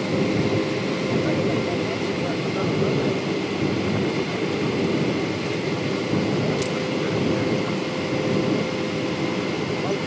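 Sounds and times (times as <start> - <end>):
jet engine cabin noise: 0.0 - 10.0.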